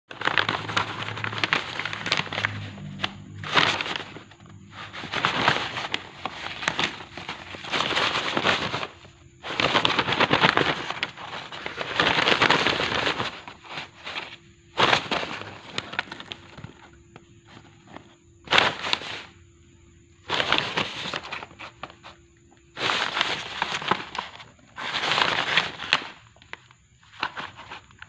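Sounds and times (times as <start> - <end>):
paper rustling and crinkling: 0.1 - 19.4, 20.2 - 28.0.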